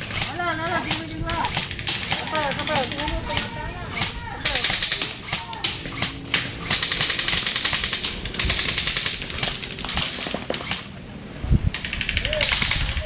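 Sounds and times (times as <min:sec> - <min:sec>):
airsoft guns firing full-auto bursts: 0:00.0 - 0:11.0, 0:11.8 - 0:13.0.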